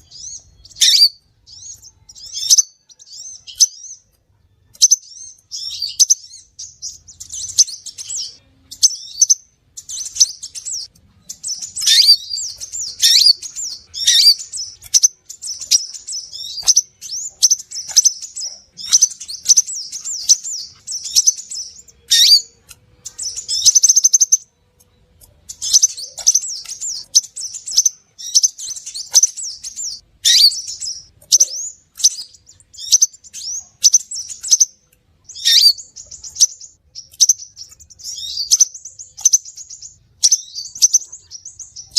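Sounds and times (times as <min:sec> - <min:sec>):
bird chirping and twittering: 0:00.0 - 0:41.9.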